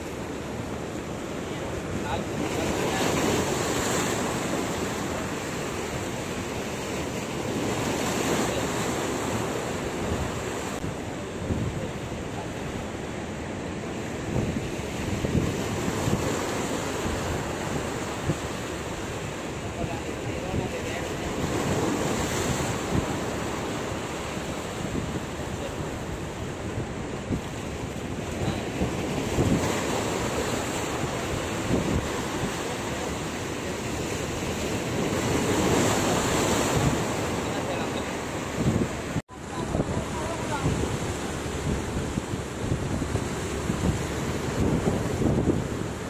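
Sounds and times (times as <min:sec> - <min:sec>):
sea surf breaking over boulders: 0:00.0 - 0:46.0.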